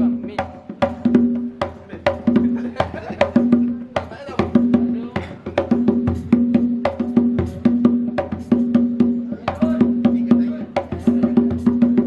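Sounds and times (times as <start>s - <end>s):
percussion playing driving rhythm: 0.0s - 12.0s.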